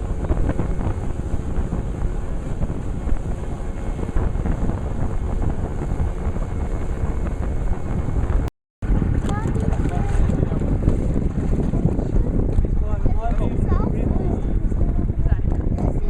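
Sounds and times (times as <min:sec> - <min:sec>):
motorboat engine and water: 0:00.0 - 0:16.0
wind buffeting microphone: 0:00.0 - 0:16.0.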